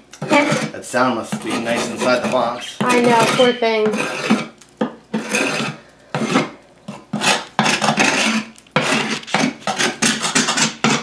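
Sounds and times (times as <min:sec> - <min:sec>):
knife scraping wood: 0:00.1 - 0:11.0.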